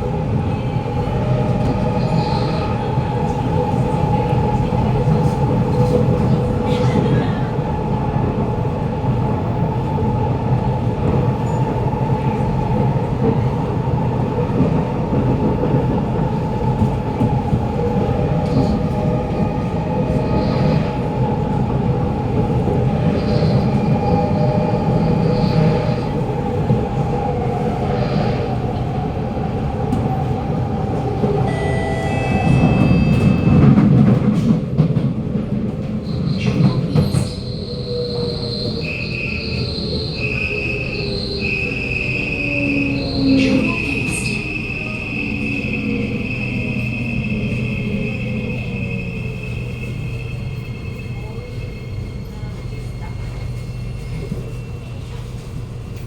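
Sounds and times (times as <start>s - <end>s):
metro car rumble and whine: 0.0s - 56.0s.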